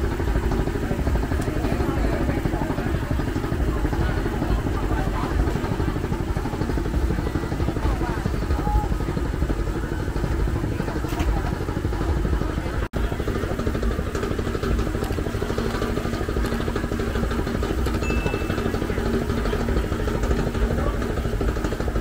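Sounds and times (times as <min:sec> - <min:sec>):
crowd voices: 0:00.0 - 0:22.0
engine rumble: 0:00.0 - 0:22.0.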